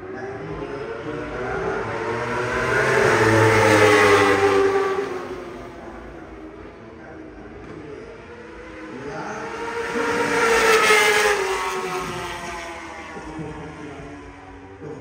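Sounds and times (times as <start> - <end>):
racing motorcycle passing: 0.0 - 15.0.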